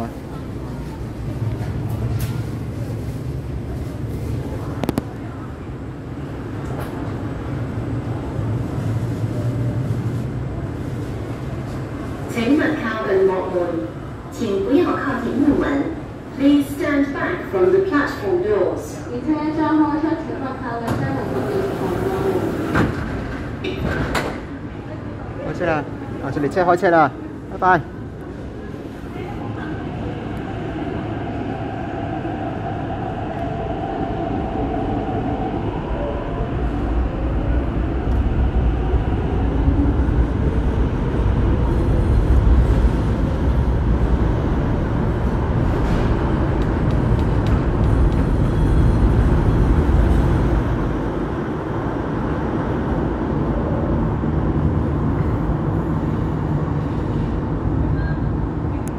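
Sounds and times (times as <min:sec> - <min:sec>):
train wheels rumbling on rail: 0:00.0 - 0:19.1, 0:20.2 - 0:25.4, 0:27.1 - 0:58.9.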